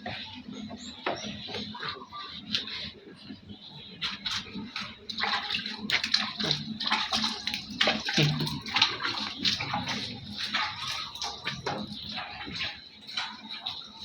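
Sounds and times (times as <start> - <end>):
water splashing in a tub: 1.4 - 14.0.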